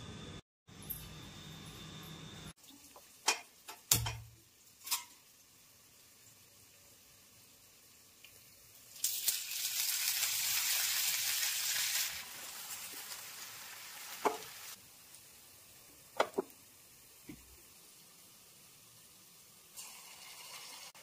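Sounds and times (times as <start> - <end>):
food sizzling in hot oil: 2.5 - 21.0.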